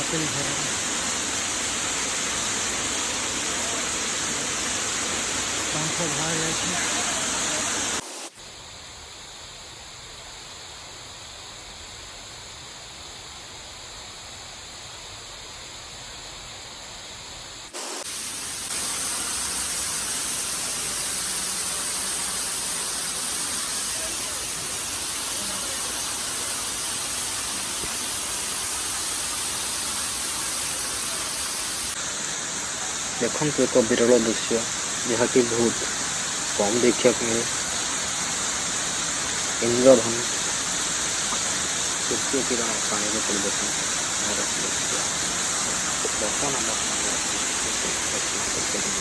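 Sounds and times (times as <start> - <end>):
waterfall rushing: 0.0 - 8.3, 17.8 - 49.0.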